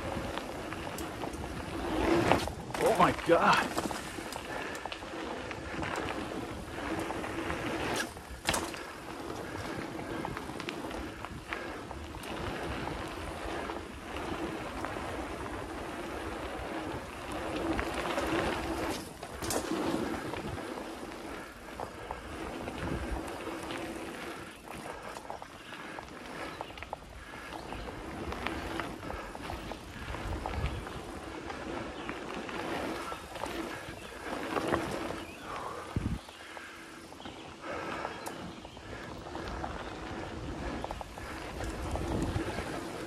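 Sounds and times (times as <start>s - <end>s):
bike rattle: 0.0s - 43.0s
mountain bike tyres rolling on dirt: 0.0s - 43.0s.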